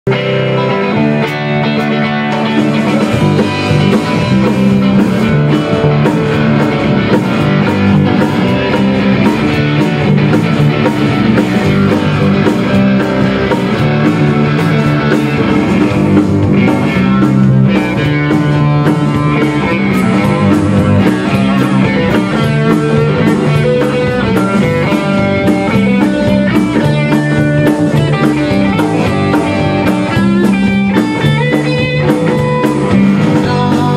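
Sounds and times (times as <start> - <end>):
rock band playing live: 0.1 - 33.9.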